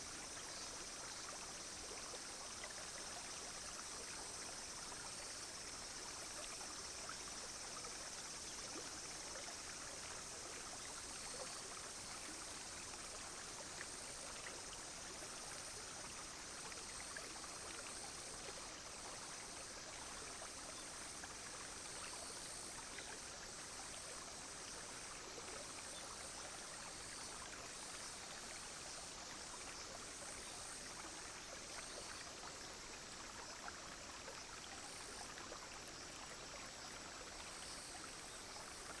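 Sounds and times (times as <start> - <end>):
insects buzzing: 0.0 - 39.0
stream flowing: 0.0 - 39.0.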